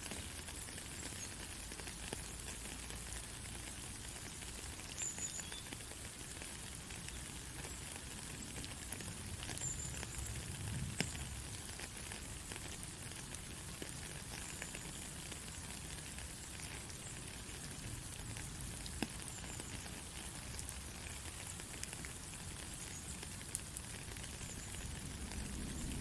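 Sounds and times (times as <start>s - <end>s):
rain drop ticks: 0.0s - 26.0s
steady rain hiss: 0.0s - 26.0s.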